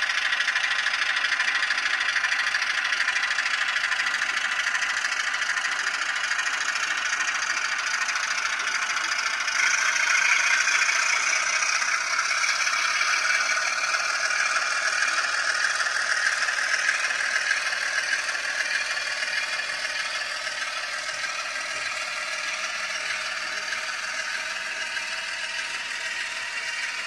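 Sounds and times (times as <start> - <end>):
diesel engine sound from tiny speaker: 0.0 - 27.0
model train wheels rattling on track: 0.0 - 27.0.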